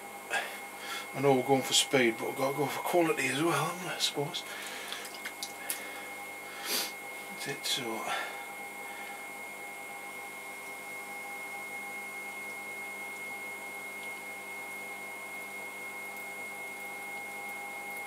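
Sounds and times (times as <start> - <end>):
high steady whine: 0.0 - 18.0
pottery wheel motor hum: 0.0 - 18.0.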